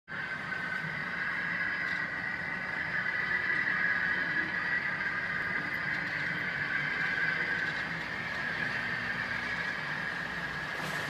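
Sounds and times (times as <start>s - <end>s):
model train high whine: 0.1s - 11.0s
model train low rumble: 0.1s - 11.0s.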